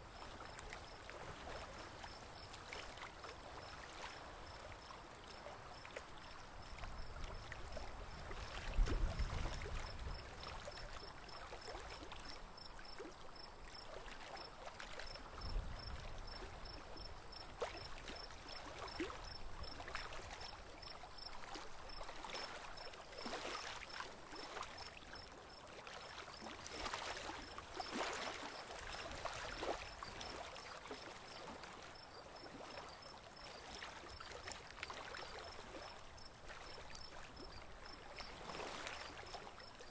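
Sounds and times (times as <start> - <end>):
water lapping around boat: 0.0 - 39.9
small splashes: 0.2 - 39.9.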